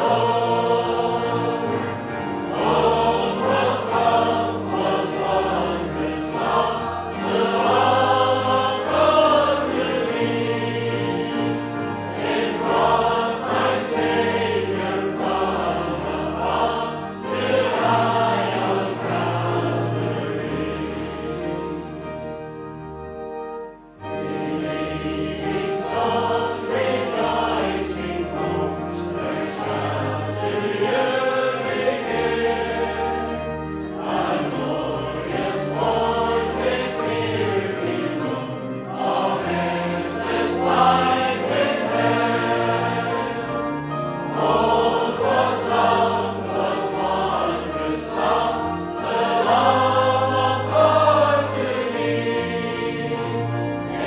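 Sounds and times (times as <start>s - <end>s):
choir singing with instruments: 0.0s - 23.0s, 23.6s - 54.0s.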